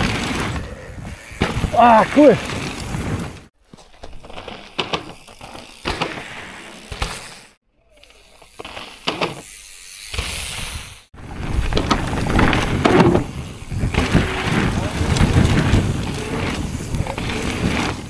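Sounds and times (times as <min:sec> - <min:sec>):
bike tyres crunching on gravel: 0:00.0 - 0:18.0
bike clicks and knocks: 0:02.4 - 0:10.7, 0:11.3 - 0:18.0.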